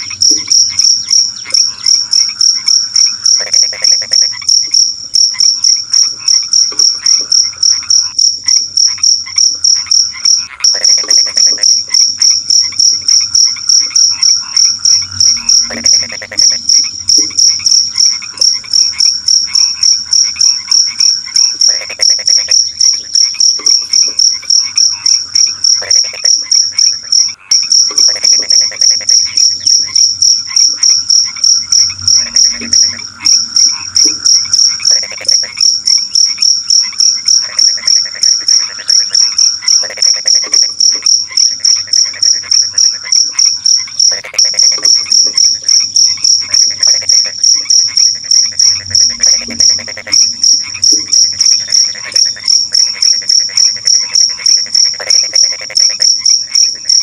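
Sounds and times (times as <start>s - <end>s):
cricket chirping: 0.0s - 57.0s
frogs croaking: 0.0s - 57.0s.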